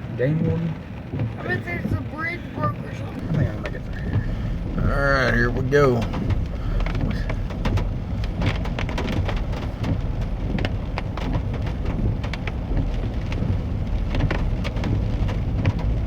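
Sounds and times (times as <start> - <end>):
truck engine low rumble: 0.0 - 16.0
water splashing against truck: 0.0 - 16.0.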